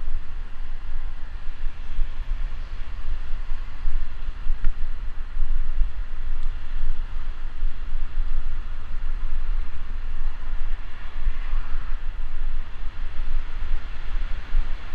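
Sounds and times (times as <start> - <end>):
road traffic hiss: 0.0 - 14.9
wind buffeting microphone: 0.0 - 14.9.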